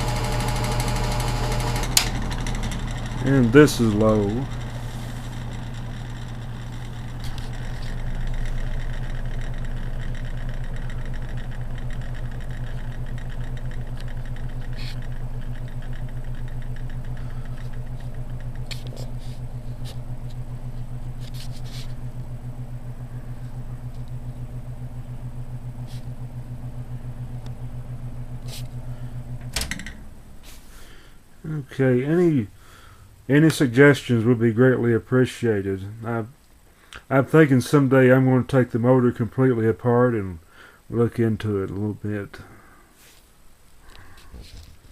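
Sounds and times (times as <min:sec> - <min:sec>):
fan motor humming: 0:00.0 - 0:44.9.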